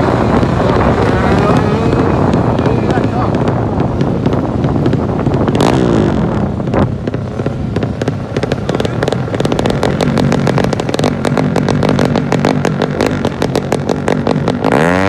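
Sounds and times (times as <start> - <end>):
motocross bike engines revving: 0.0 - 15.0
rapid crackling: 0.0 - 15.0.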